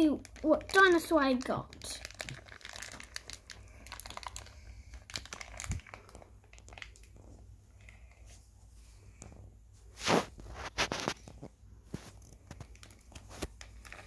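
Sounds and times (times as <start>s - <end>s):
plastic wrapper crinkling: 0.0s - 8.2s, 10.0s - 14.0s.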